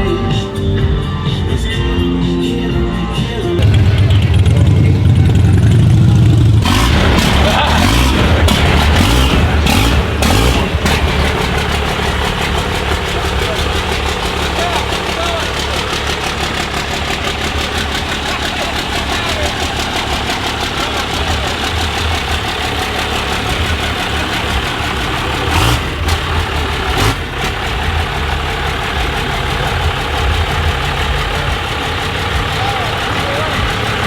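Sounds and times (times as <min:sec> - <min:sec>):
truck engines idling: 0:00.0 - 0:34.0.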